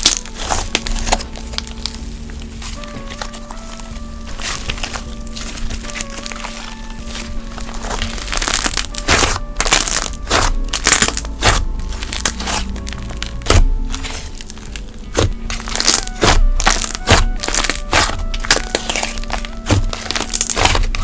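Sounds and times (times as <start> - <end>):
slime crackling and popping: 0.0 - 21.0
soft background music: 0.0 - 21.0.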